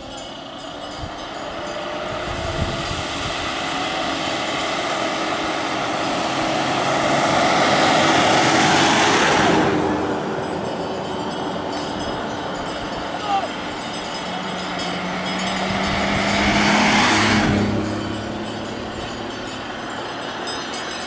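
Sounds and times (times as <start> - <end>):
vehicle passing close by: 0.0 - 21.0.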